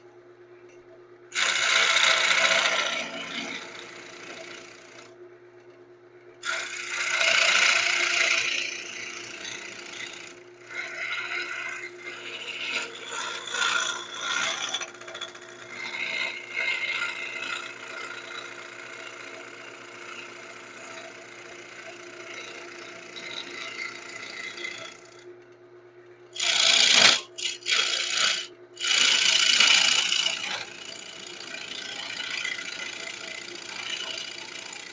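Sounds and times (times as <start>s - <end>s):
turning tool scraping wood: 1.4s - 5.0s, 6.4s - 25.1s, 26.4s - 34.9s
wood lathe humming: 1.4s - 5.2s, 6.4s - 25.3s, 26.4s - 34.9s.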